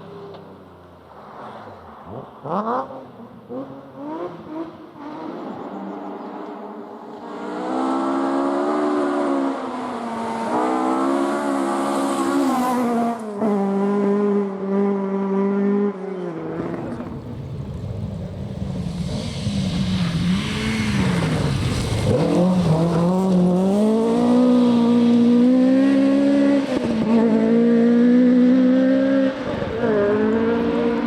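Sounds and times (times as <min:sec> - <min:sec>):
rally car engine accelerating: 0:02.2 - 0:31.0.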